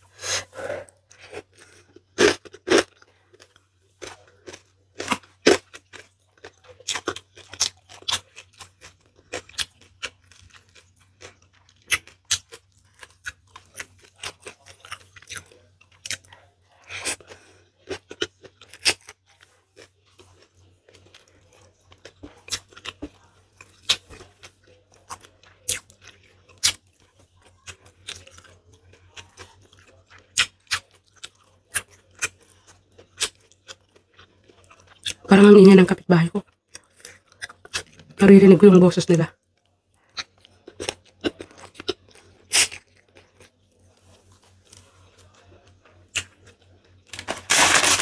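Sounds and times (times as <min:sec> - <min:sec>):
chewing with crunches: 0:00.0 - 0:35.6, 0:36.4 - 0:38.2, 0:39.3 - 0:48.0
faint low hum: 0:00.0 - 0:48.0.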